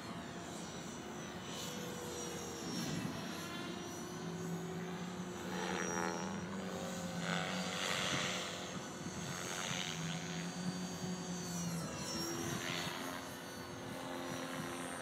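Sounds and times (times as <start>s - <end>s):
faint high whine: 0.0s - 15.0s
model helicopter rotor hum: 0.0s - 15.0s.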